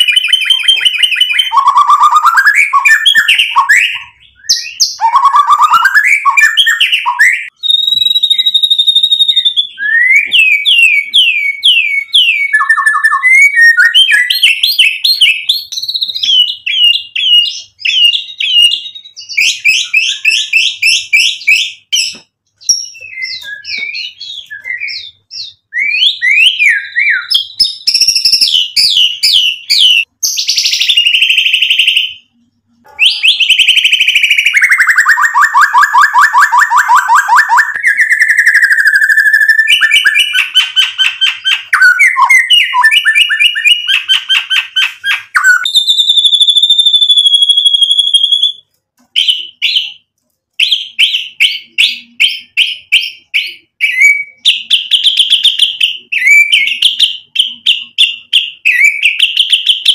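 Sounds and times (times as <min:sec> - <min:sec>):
bird singing trills and whistles: 0:00.0 - 0:59.9.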